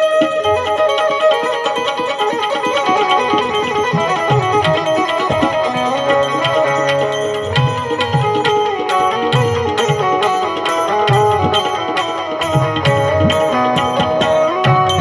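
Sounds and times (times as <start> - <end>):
hand drum beat: 0.0 - 15.0
melody instrument: 0.0 - 15.0.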